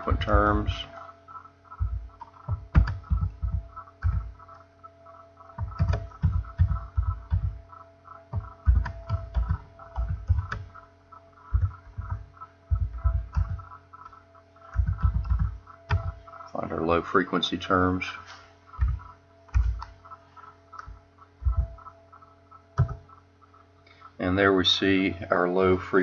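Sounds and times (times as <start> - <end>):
computer keyboard typing: 0.0 - 18.1, 18.7 - 24.1
faint steady hum: 0.0 - 26.0.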